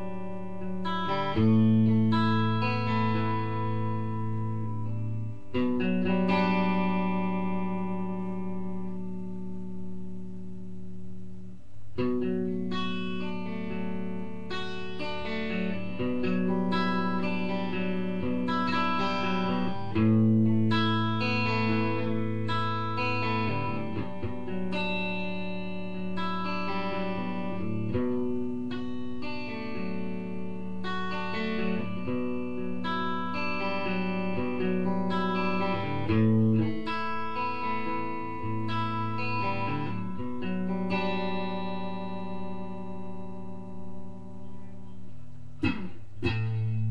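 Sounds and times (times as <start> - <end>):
guitar music: 0.0 - 46.9.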